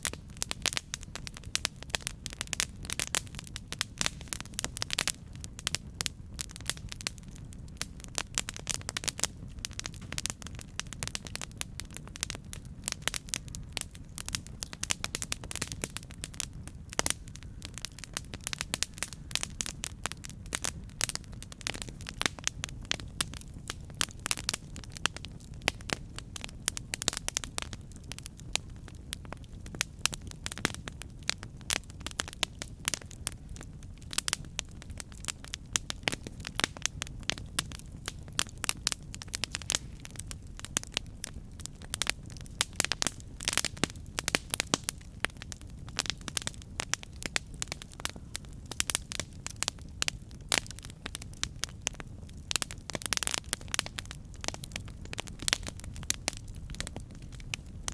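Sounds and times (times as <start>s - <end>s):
low rumble of flames: 0.0s - 57.9s
wood crackling and popping: 0.0s - 57.9s.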